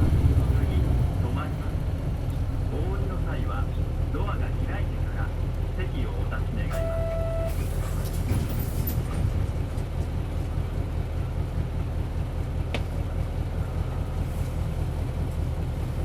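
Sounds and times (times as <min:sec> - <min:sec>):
bus diesel engine hum: 0:00.0 - 0:16.0.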